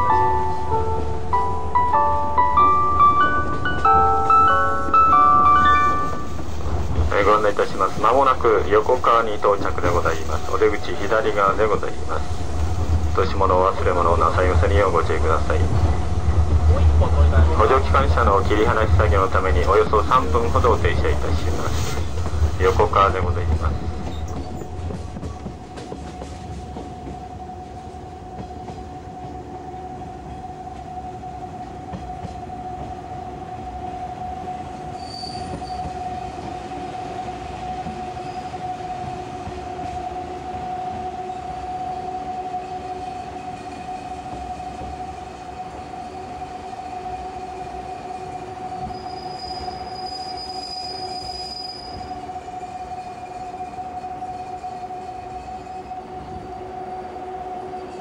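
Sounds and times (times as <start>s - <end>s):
electric train equipment whine: 0.0s - 58.0s.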